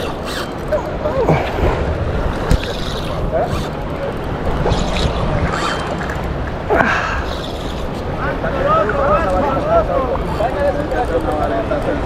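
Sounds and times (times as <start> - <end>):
river water rushing: 0.0 - 10.7.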